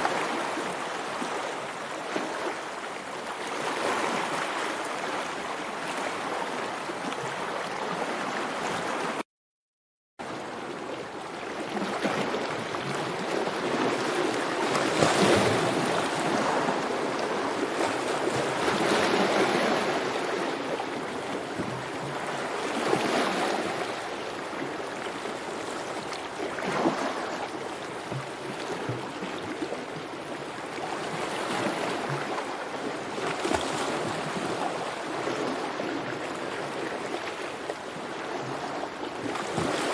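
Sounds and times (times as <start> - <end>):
rushing water: 0.0 - 9.2, 10.2 - 39.9.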